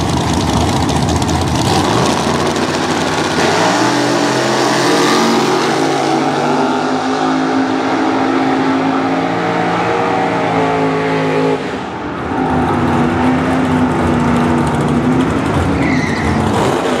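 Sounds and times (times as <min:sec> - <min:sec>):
racing engines accelerating: 0:01.1 - 0:17.0.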